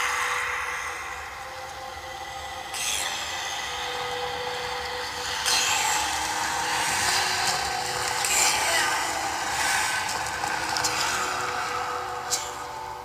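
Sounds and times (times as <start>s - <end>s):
snake-like hissing and rasping: 2.0s - 13.0s.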